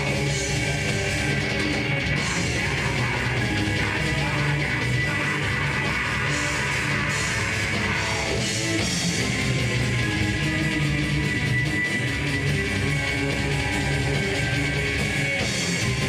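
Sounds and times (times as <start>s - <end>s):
distorted electric guitars: 0.0s - 16.0s
drum kit: 0.0s - 16.0s.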